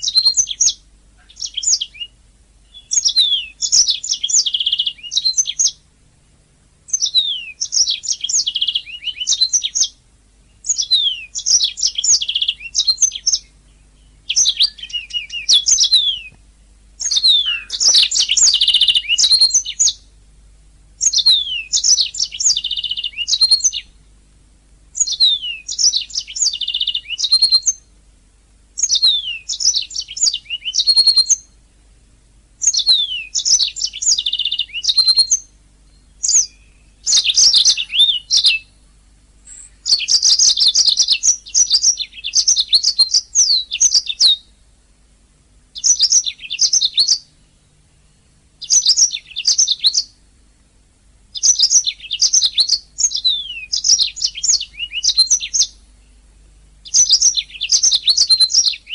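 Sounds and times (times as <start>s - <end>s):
canary twittering trills: 0.0s - 5.8s, 6.9s - 16.4s, 17.0s - 20.1s, 21.0s - 24.0s, 24.9s - 27.9s, 28.8s - 31.6s, 32.6s - 44.6s, 45.8s - 47.6s, 48.6s - 50.2s, 51.3s - 58.9s.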